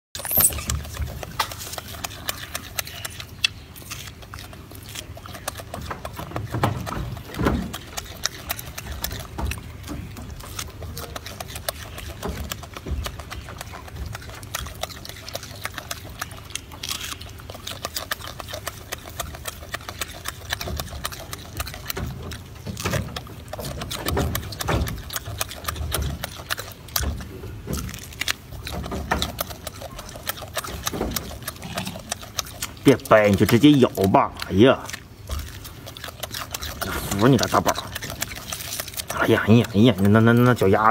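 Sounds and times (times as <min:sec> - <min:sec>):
monkey chewing and smacking: 0:00.1 - 0:40.9.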